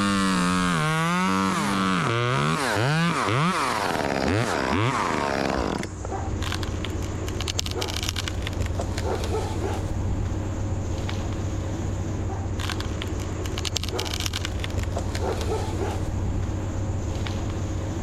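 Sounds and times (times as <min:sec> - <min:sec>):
chainsaw revving: 0:00.0 - 0:18.0
crackles: 0:00.0 - 0:18.0
low engine hum: 0:00.0 - 0:18.0.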